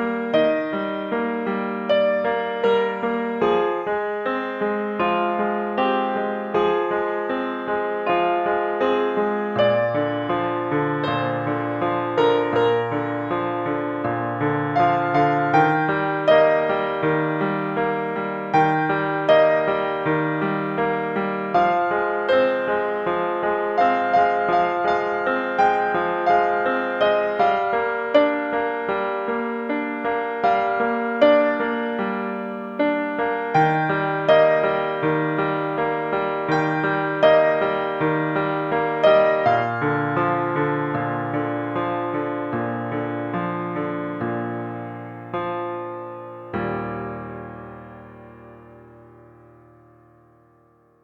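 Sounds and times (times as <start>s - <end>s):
gentle piano notes: 0.0s - 51.0s.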